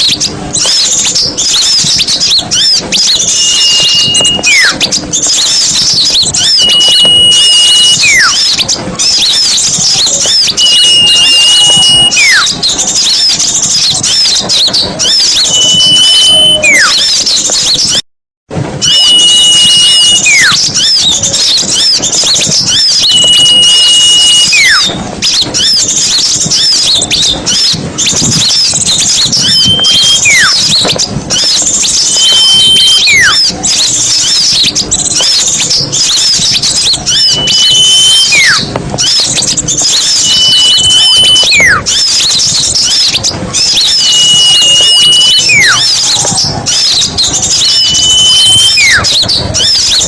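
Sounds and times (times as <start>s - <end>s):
songbirds chattering: 0.0s - 18.0s, 18.8s - 50.0s
whistle: 0.0s - 18.0s, 18.8s - 50.0s.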